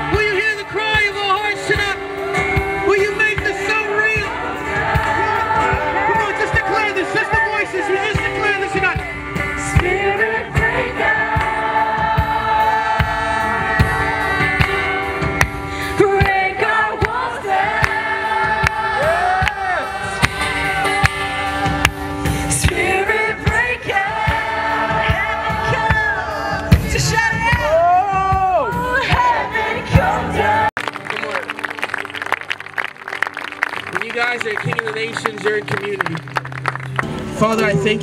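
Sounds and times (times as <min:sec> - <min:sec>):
band with steady beat: 0:00.0 - 0:30.7
voices singing worship song: 0:00.0 - 0:30.7.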